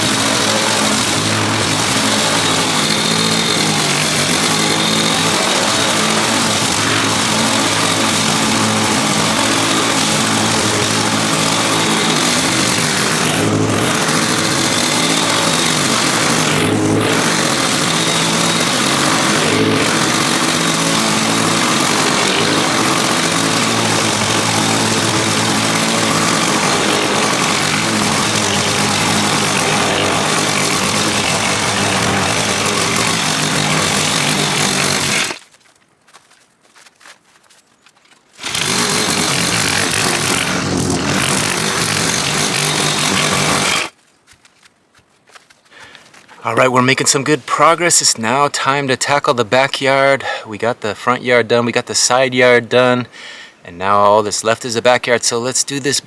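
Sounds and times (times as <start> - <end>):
lawn mower engine running: 0.0 - 35.4, 38.4 - 44.0, 45.8 - 53.6.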